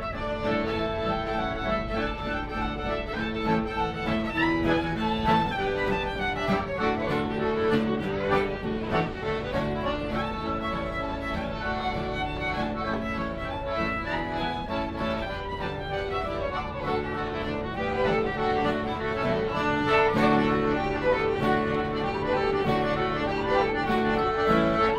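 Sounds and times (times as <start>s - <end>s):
fiddle melody: 0.0s - 24.9s
strummed acoustic guitar: 0.0s - 24.9s
tin whistle: 0.1s - 24.9s.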